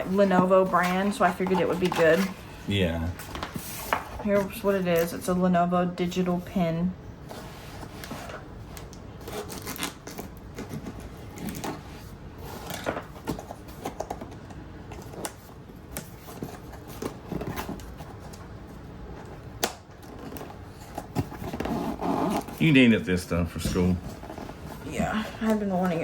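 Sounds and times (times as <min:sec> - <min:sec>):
cardboard and plastic packaging rustling: 0:00.0 - 0:05.3, 0:07.2 - 0:26.0.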